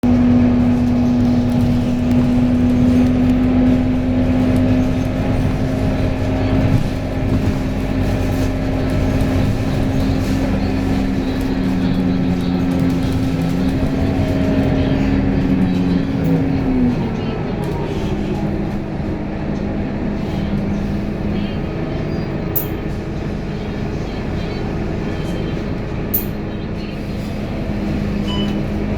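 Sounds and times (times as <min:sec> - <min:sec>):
vehicle droning hum: 0:00.0 - 0:28.9.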